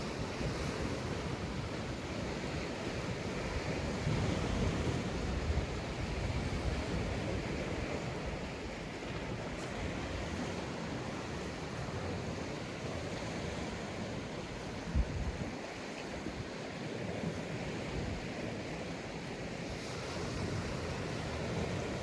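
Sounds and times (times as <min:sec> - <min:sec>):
waves breaking on a beach: 0:00.0 - 0:22.0
wind on microphone: 0:00.0 - 0:22.0.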